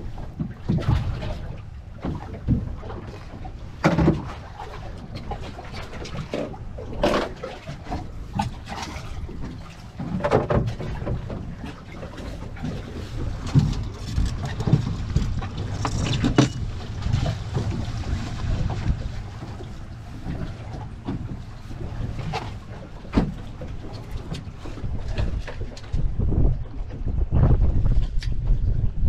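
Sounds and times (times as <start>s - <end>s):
knocks and clatters on boat: 0.0s - 29.0s
water noise around boat: 0.0s - 29.0s
wind rumbling on microphone: 0.0s - 29.0s.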